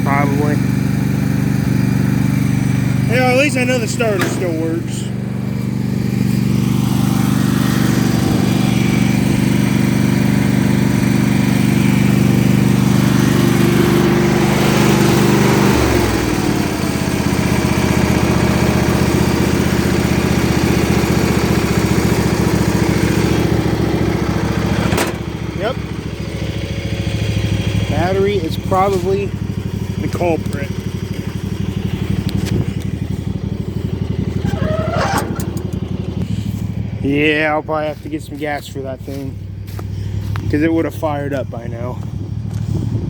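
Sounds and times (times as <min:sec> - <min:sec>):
riding lawn mower engine: 0:00.0 - 0:43.0.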